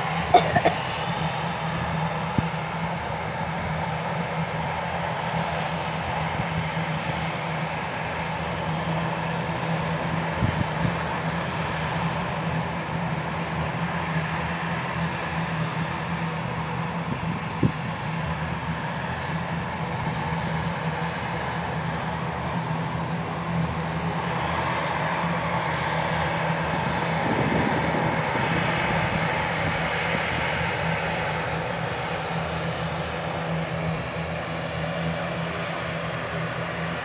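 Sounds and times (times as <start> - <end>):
turboprop engines droning: 0.0 - 37.0.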